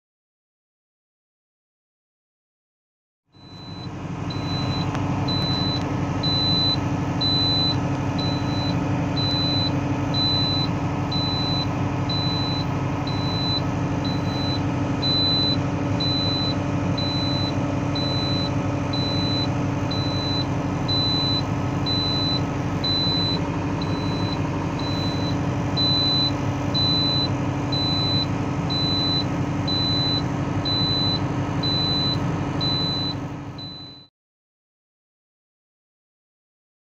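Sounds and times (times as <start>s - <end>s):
diesel engine humming: 3.3s - 34.1s
high-pitched warning buzzer beeping: 3.4s - 34.1s.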